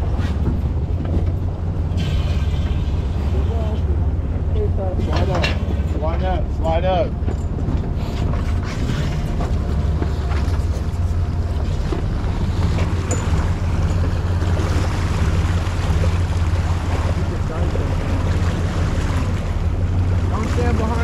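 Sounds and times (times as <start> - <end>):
boat engine rumbling: 0.0 - 21.0
water washing along hull: 0.0 - 21.0.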